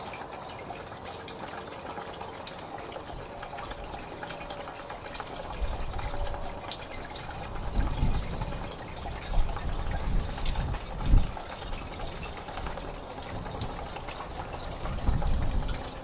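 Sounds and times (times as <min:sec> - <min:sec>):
fuel pouring into tank: 0:00.0 - 0:16.0.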